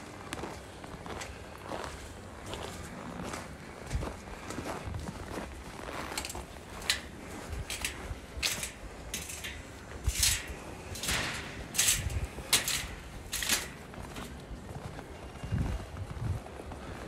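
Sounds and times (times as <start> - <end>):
crunchy footsteps walking: 0.0 - 17.0.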